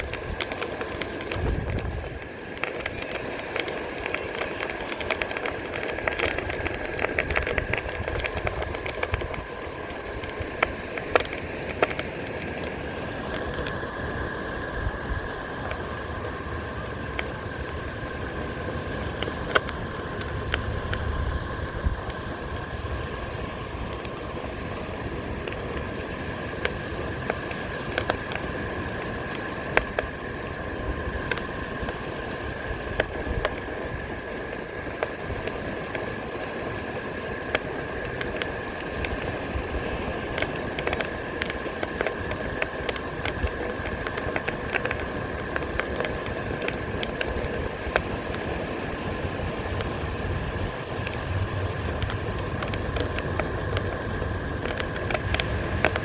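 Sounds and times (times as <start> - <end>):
electric board hum: 0.0 - 56.0
shells crunching under tyre: 0.0 - 56.0
wind on microphone: 0.0 - 56.0.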